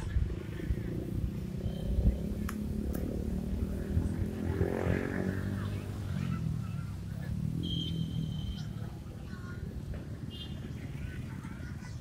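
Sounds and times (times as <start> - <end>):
distant voices: 0.0 - 12.0
passing vehicles: 0.0 - 12.0.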